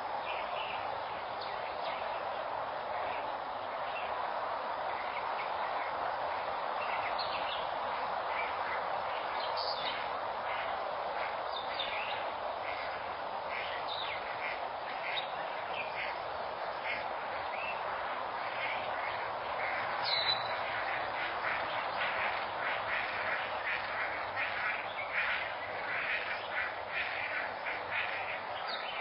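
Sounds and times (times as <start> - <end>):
steady hiss: 0.0 - 29.0
birds chirping: 0.1 - 29.0.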